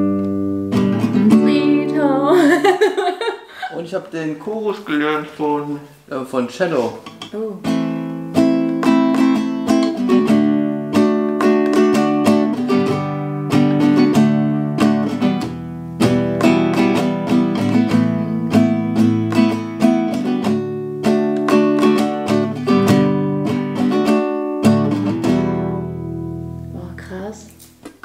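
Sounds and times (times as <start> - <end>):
acoustic guitar strumming chords: 0.0 - 2.6, 7.0 - 27.0.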